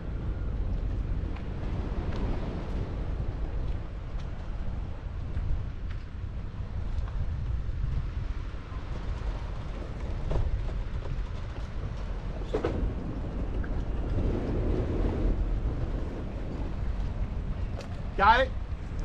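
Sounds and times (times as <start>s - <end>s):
boat engine rumble: 0.0s - 19.0s
wind buffeting microphone: 0.0s - 19.0s.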